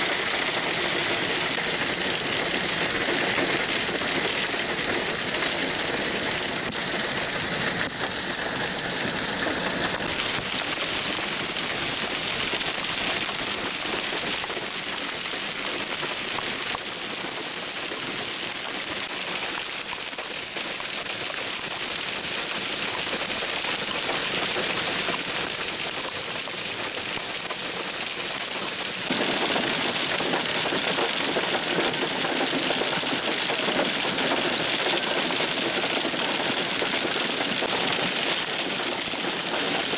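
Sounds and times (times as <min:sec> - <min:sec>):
hail clattering on pavement: 0:00.0 - 0:39.9.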